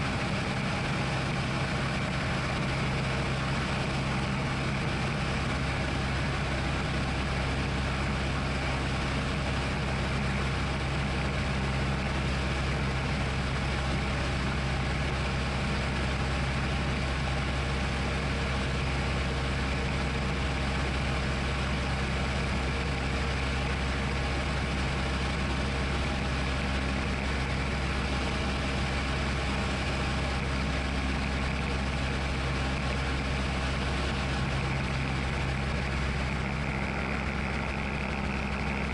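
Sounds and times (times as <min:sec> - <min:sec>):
aircraft engine and propeller drone: 0:00.0 - 0:38.9.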